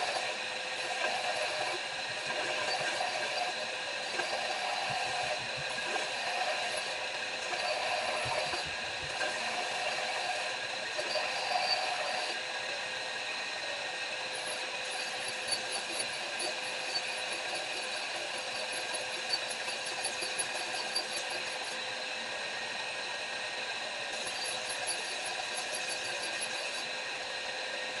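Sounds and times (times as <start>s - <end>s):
electric grinder whining: 0.0s - 27.4s.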